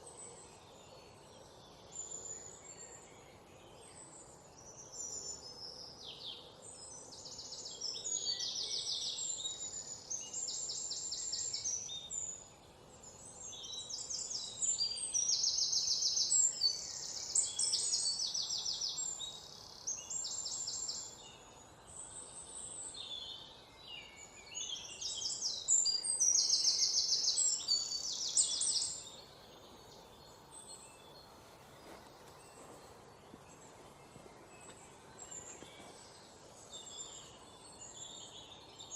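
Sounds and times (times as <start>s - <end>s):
faint steady hiss: 0.0s - 38.9s
songbirds trilling and chirping: 0.0s - 38.9s.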